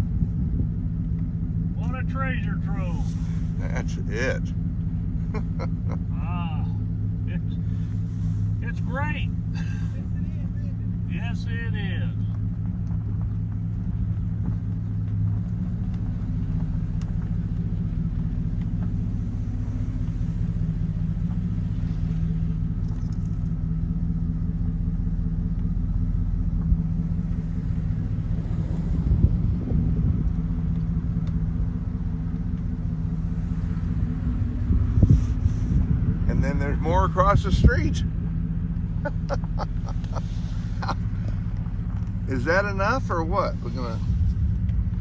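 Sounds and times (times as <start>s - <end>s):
car engine droning: 0.0s - 45.0s.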